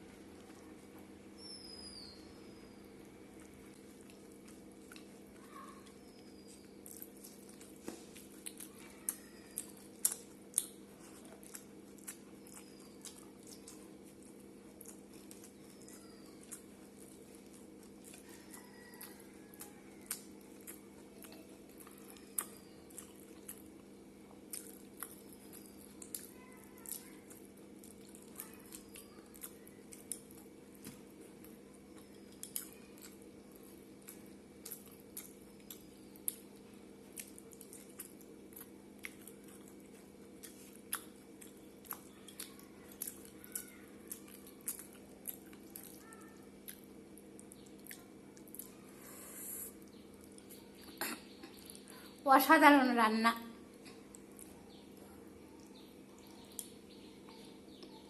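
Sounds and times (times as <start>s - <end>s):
steady low hum: 0.0s - 58.0s
person chewing food: 2.9s - 52.2s, 53.6s - 58.0s.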